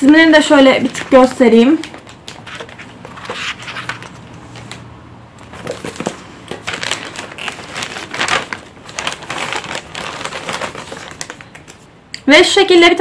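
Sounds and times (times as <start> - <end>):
plastic bags crinkling: 0.4 - 4.8, 5.4 - 11.9
book pages flipping: 0.8 - 11.9.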